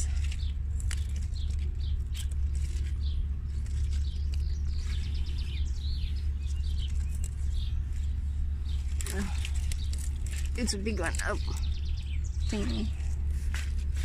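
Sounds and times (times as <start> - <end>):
low rumble: 0.0 - 14.0
songbirds chirping: 0.0 - 14.0.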